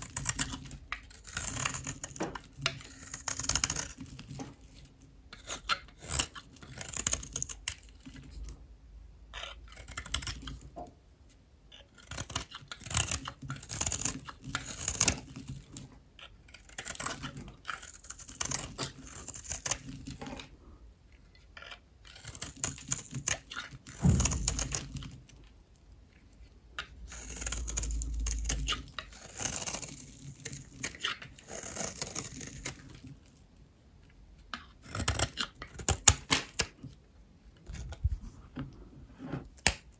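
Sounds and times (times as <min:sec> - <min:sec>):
blade cutting dry soap: 0:00.0 - 0:37.0, 0:37.6 - 0:39.9.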